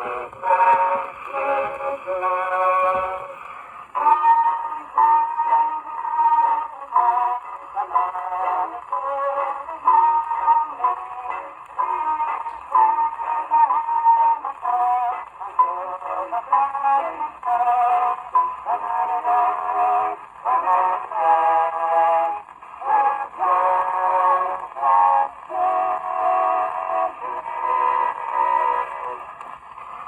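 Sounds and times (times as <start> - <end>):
male vocal quartet singing: 0.0 - 29.2.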